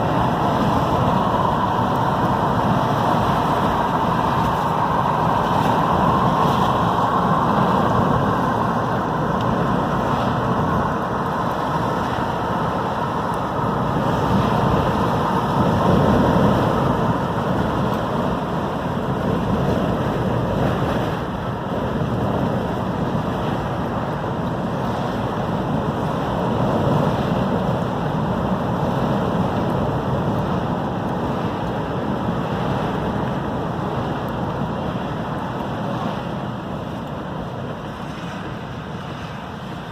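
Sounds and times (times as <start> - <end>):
ocean surf breaking: 0.0 - 39.9
wind buffeting microphone: 0.0 - 39.9.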